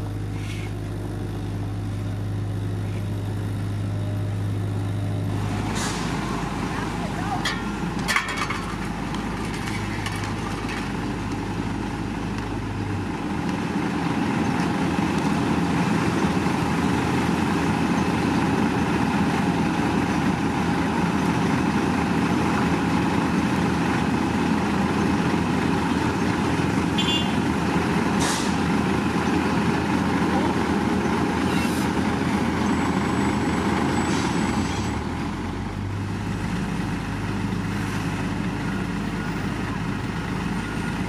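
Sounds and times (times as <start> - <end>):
paving machinery engines running: 0.0 - 41.0.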